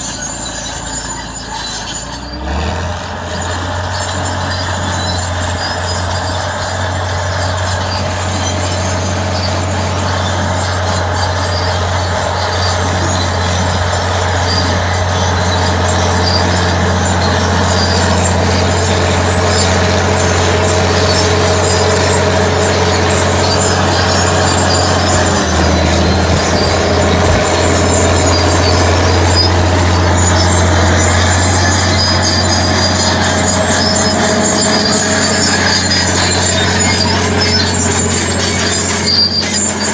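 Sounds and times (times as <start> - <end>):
diesel tractor engine under load: 0.0 - 39.9
steel tracks running: 0.0 - 39.9.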